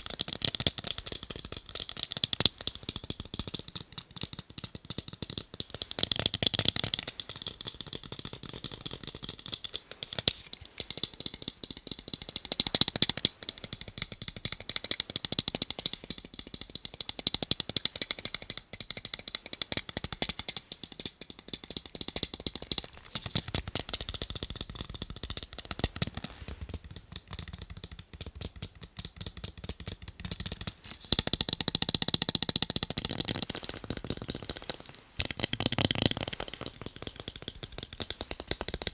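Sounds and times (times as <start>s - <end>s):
rapid tapping on eyeglasses: 0.0s - 38.9s.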